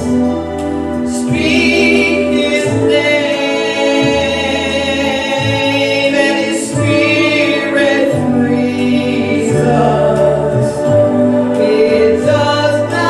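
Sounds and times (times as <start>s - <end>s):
choir voices: 0.0s - 13.0s
gospel accompaniment track: 0.0s - 13.0s
woman singing: 0.1s - 13.0s.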